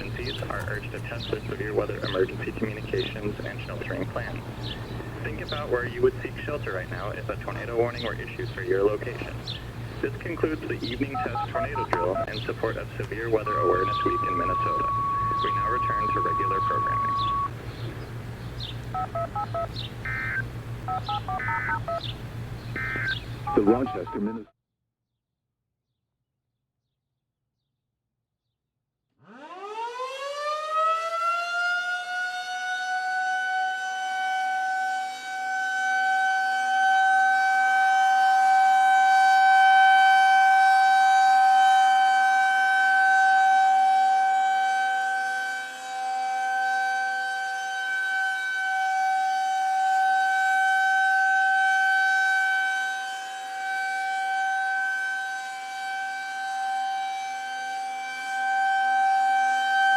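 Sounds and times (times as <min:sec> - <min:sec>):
warning siren wailing: 0:00.0 - 0:24.4, 0:29.2 - 0:59.9.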